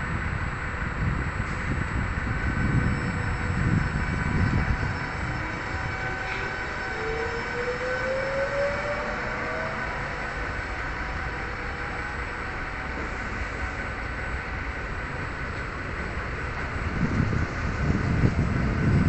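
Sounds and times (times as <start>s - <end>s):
train running noise: 0.0s - 19.0s
train traction motor whine: 0.0s - 19.0s.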